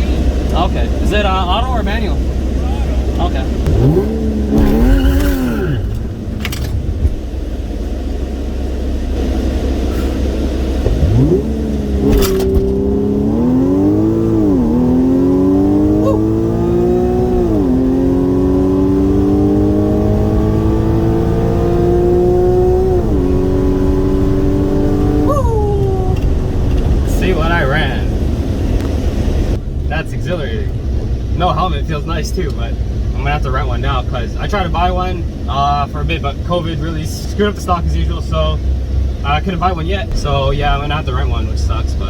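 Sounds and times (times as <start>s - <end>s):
car engine accelerating hard: 0.0s - 42.0s.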